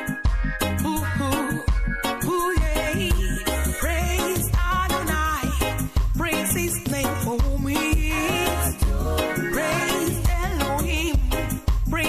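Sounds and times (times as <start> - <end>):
reggae gospel song: 0.0 - 12.0.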